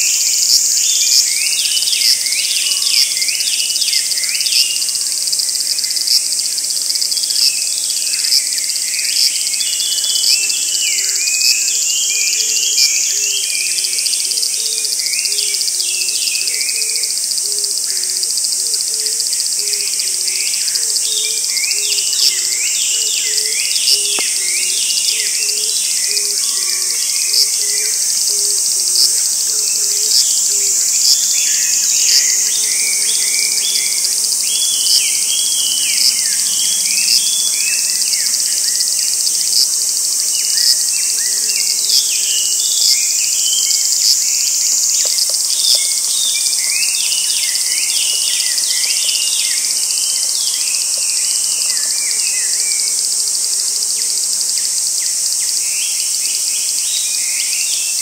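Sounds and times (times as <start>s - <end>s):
shrill insect chorus: 0.0s - 58.0s.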